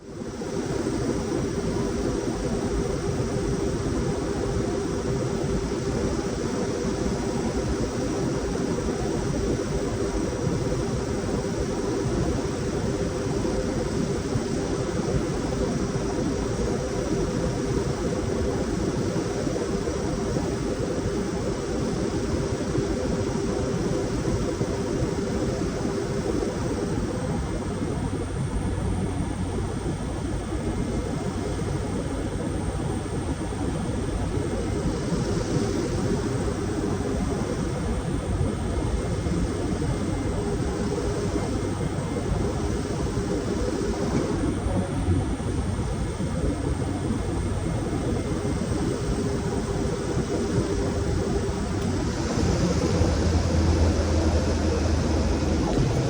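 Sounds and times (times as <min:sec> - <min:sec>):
aircraft engines droning: 0:00.0 - 0:56.0.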